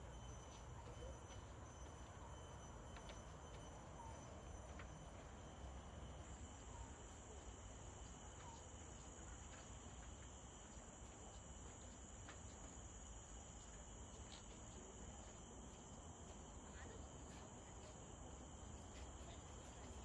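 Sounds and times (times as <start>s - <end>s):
forest insects droning: 0.0s - 20.0s.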